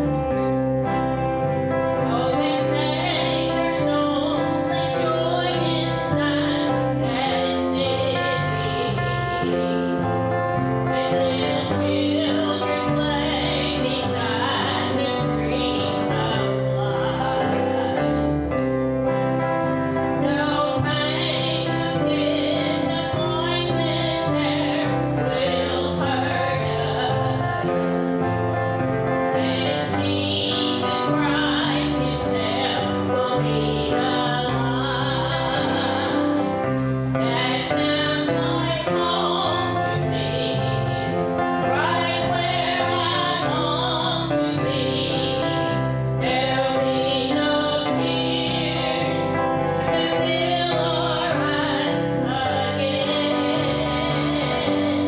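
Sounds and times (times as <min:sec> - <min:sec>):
strummed acoustic guitar: 0:00.0 - 0:55.0
voices singing: 0:00.0 - 0:55.0.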